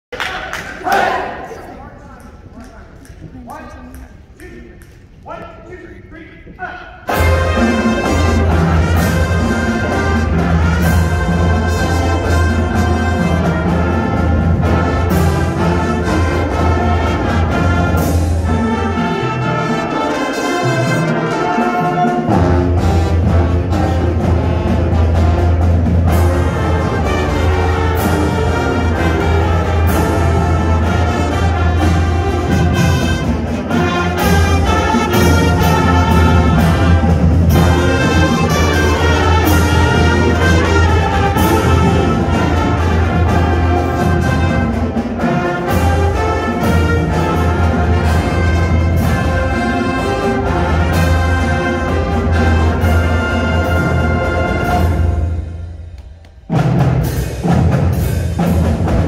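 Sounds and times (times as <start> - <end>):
drum line: 2.3 - 59.0
trumpets: 5.3 - 59.0.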